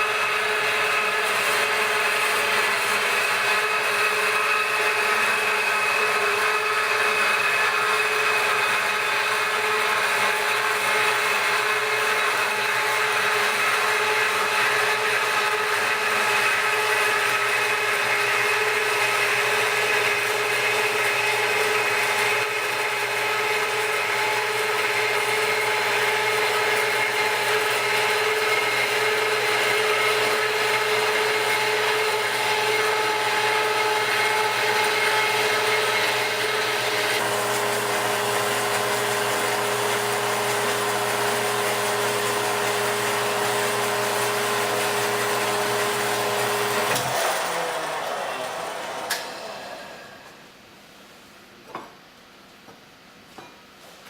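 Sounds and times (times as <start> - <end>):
band saw cutting steel pipe: 0.0 - 50.2.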